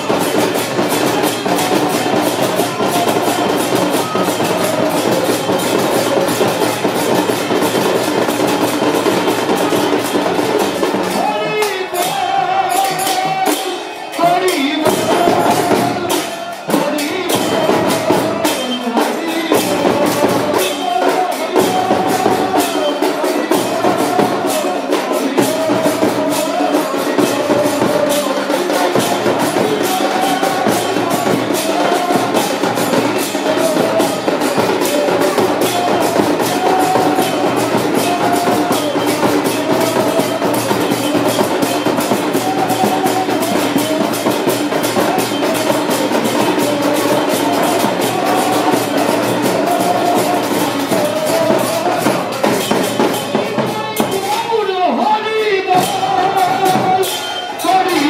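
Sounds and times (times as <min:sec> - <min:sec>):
barrel drums beating: 0:00.0 - 0:54.9, 0:55.6 - 0:58.0
brass hand cymbals clashing: 0:00.0 - 0:58.0
group singing a devotional chant: 0:00.0 - 0:58.0.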